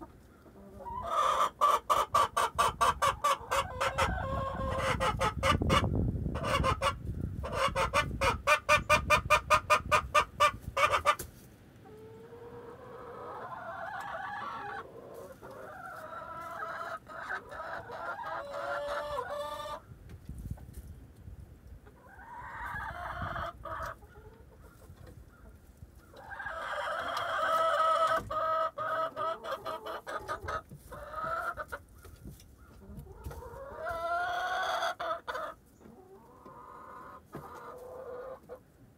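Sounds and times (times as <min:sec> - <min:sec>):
chickens clucking and calling: 0:00.0 - 0:38.9.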